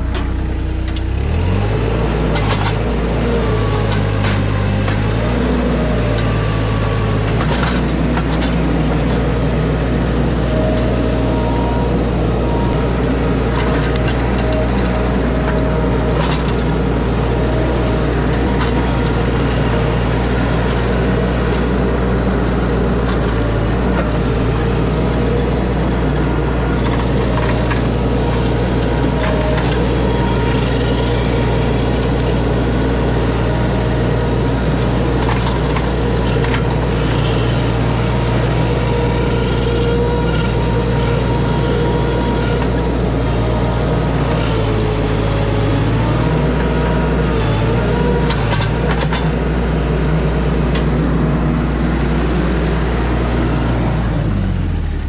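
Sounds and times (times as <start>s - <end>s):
skid steer engine running: 0.0s - 55.0s.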